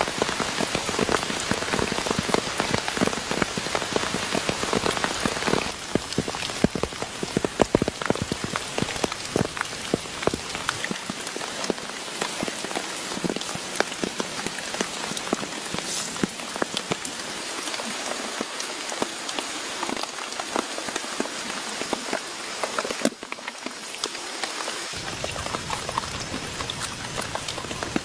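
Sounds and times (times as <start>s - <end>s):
heavy rain falling: 0.0s - 28.0s
raindrops tapping on a surface: 0.0s - 28.0s.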